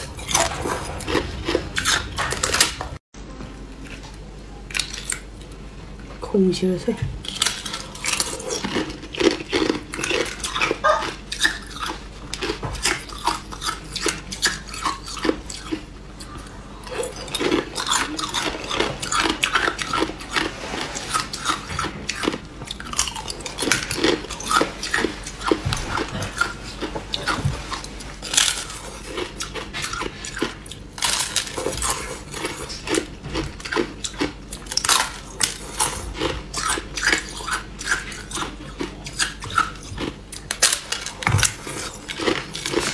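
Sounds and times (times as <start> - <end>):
ice crunching while chewed: 7.2 - 42.9.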